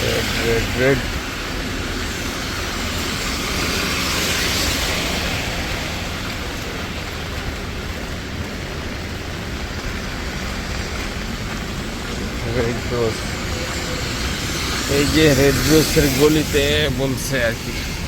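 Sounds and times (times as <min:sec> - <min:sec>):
heavy rain on street: 0:00.0 - 0:18.0.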